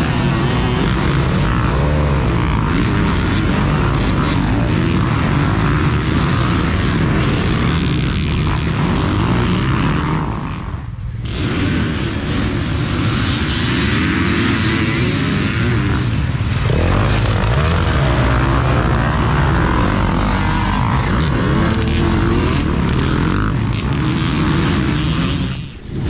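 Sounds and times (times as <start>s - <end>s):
dirt bikes revving: 0.0s - 26.0s.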